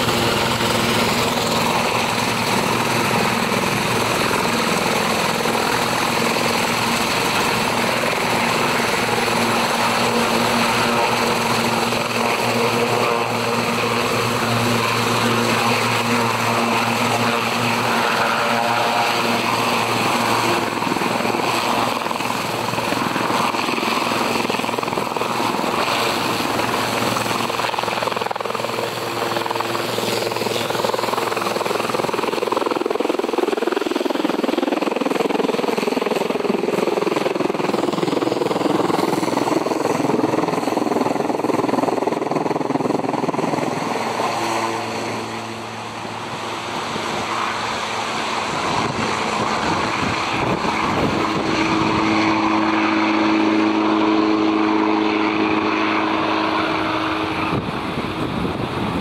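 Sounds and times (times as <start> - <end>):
helicopter engines and rotors: 0.0 - 59.0.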